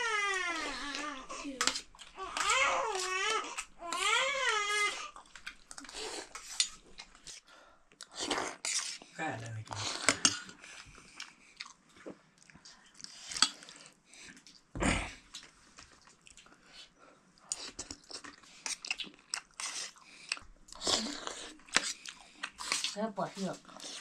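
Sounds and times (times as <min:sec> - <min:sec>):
chewing and crunching food: 0:00.4 - 0:24.0.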